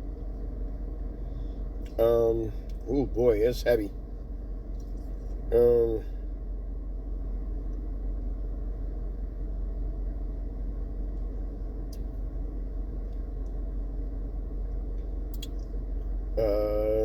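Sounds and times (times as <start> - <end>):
deep hum: 0.0 - 17.0
low rumble: 0.0 - 17.0.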